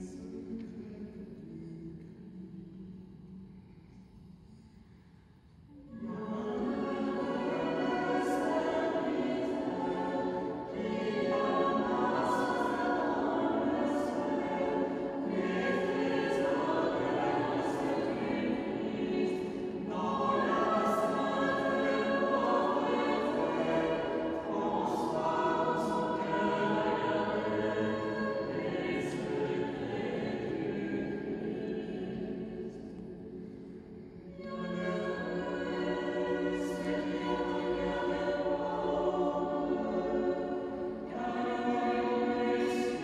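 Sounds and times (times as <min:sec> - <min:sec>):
choir singing chant: 0:00.0 - 0:03.3, 0:05.7 - 0:43.0.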